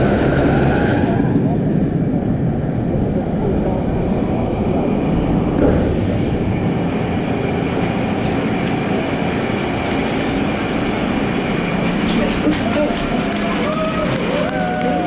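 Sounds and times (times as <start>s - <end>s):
roller coaster wheels rumbling on rail: 0.0s - 15.0s.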